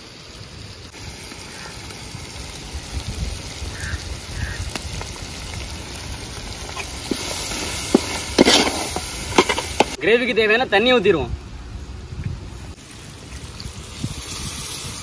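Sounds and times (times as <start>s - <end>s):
chicken sizzling in a pot: 0.0s - 10.0s, 12.5s - 15.0s.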